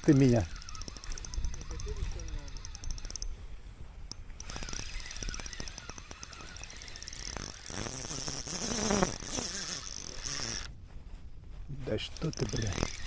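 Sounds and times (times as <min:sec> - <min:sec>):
fishing reel whirring: 0:00.0 - 0:03.4, 0:04.1 - 0:10.7, 0:12.1 - 0:13.0.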